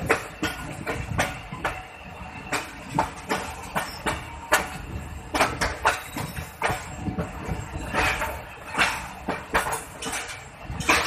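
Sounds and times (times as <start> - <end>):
train wheels rumbling: 0.0 - 11.0
wheels clacking over rail joints: 0.0 - 11.0.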